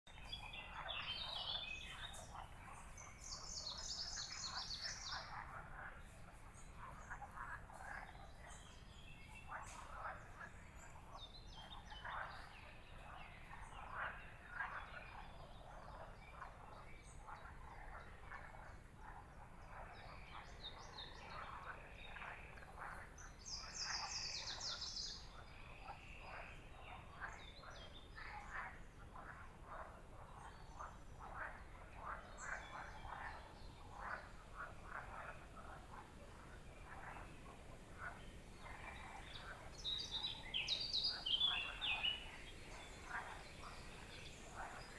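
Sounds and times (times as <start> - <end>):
frogs croaking: 0.1 - 44.9
songbirds singing: 0.1 - 44.9.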